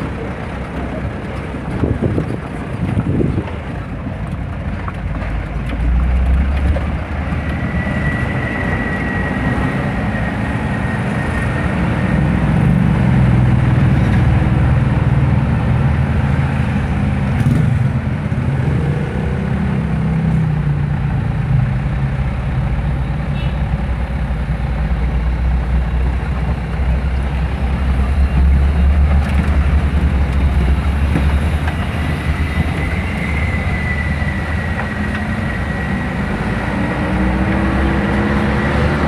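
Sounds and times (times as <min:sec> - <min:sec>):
large engine droning: 0:00.0 - 0:39.0.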